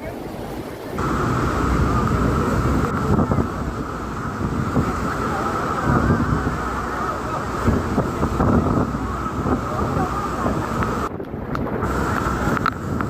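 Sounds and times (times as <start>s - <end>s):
boat engine rumble: 0.0s - 13.0s
water rushing: 0.0s - 13.0s
wind buffeting microphone: 0.0s - 13.0s.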